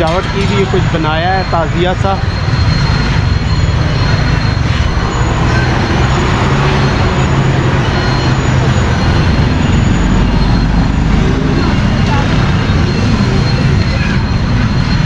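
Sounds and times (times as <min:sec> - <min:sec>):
car engines passing: 0:00.0 - 0:15.0
motorbikes rumbling: 0:00.0 - 0:15.0.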